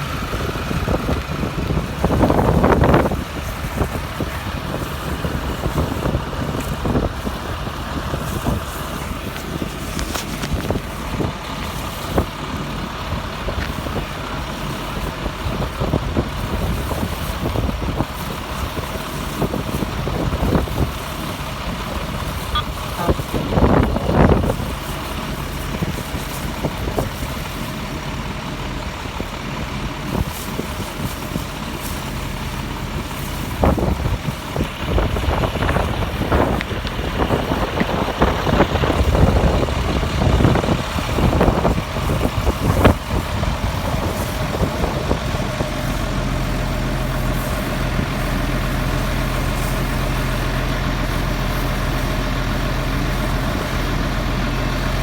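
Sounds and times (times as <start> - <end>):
fire truck engine humming: 0.0 - 55.0.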